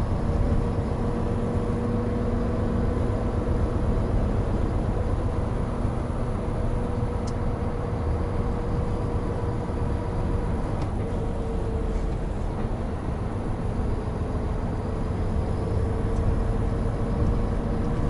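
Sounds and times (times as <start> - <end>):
diesel truck engine drone: 0.0 - 18.0
road noise: 0.0 - 18.0.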